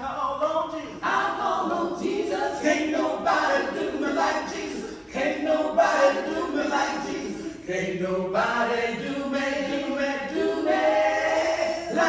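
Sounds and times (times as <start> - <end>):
women singing a cappella: 0.9 - 12.0.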